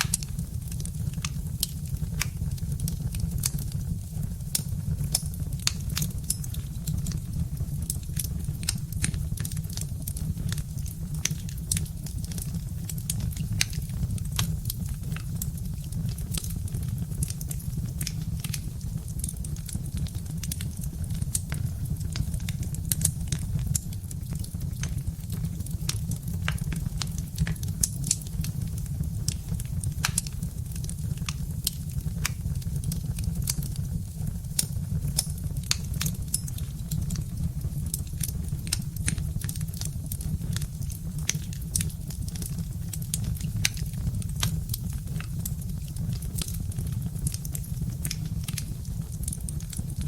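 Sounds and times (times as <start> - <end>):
low steady rumble: 0.0 - 50.0
wood fire crackling: 0.0 - 50.0.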